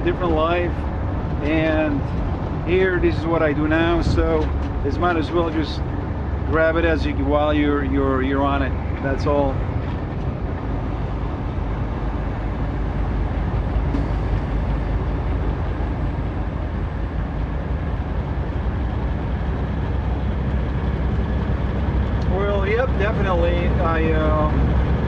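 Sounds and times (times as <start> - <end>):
low truck engine drone: 0.0 - 25.0
tyre and road noise: 0.0 - 25.0.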